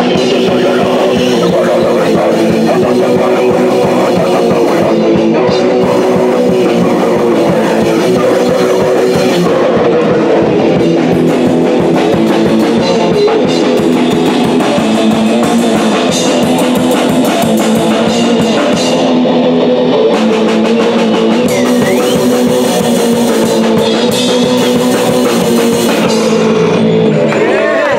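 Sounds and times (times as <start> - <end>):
drum kit: 0.0 - 27.9
electric guitar: 0.0 - 27.9
punk rock band playing: 0.0 - 27.9.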